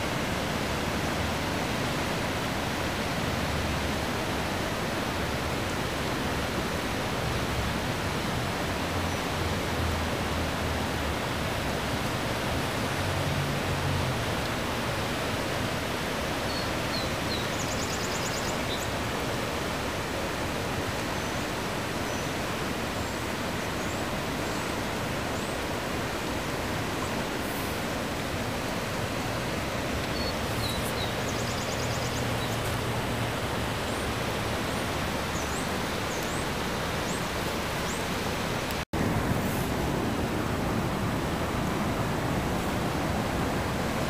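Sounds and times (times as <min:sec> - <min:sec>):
river rushing over a dam: 0:00.0 - 0:44.0.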